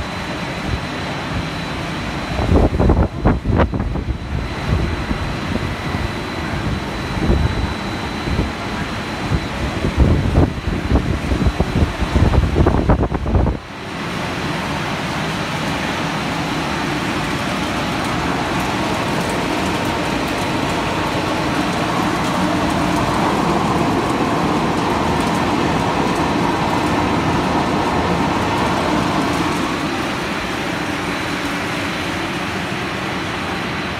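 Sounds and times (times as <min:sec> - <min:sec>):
loud irregular low rumbling: 0:00.0 - 0:33.9
production-line machinery running: 0:00.0 - 0:33.9.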